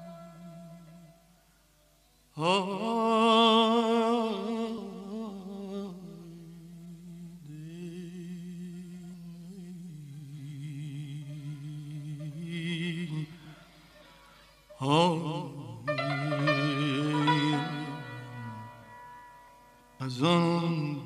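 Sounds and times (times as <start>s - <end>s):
man singing wordless ornamented notes: 0.0s - 1.4s, 2.4s - 14.0s, 14.7s - 21.0s.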